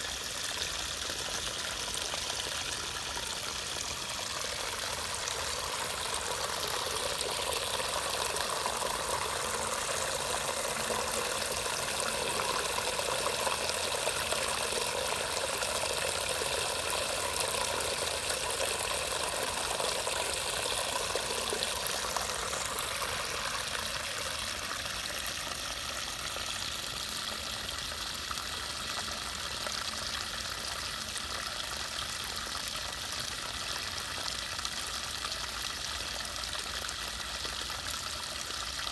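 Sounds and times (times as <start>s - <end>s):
floodwater rushing through drain: 0.0s - 38.9s.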